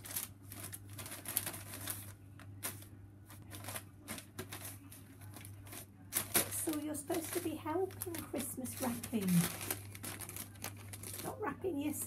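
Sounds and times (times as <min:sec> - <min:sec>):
wrapping paper crinkling: 0:00.0 - 0:12.0.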